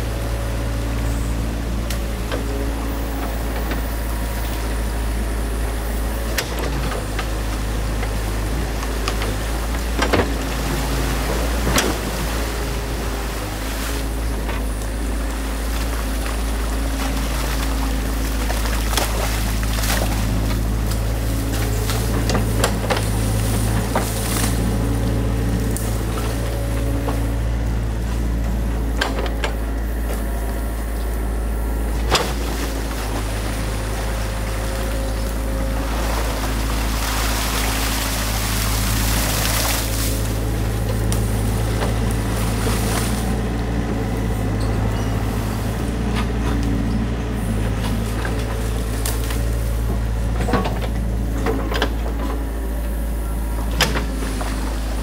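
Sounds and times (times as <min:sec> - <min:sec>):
stream water splashing: 0:00.0 - 0:44.6
excavator diesel engine running: 0:00.0 - 0:55.0.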